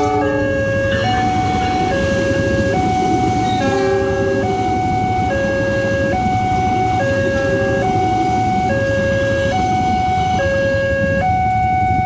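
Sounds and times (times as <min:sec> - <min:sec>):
train rumbling past: 0:00.0 - 0:12.0
two-tone crossing warning bell: 0:00.0 - 0:12.0.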